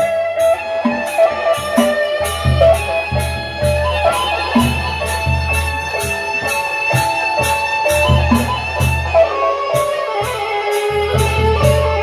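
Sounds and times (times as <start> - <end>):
bamboo flutes melody: 0.0 - 12.0
cymbals crashing: 0.0 - 12.0
gongs and metal percussion: 0.0 - 12.0
heavy drum strokes: 0.0 - 12.0.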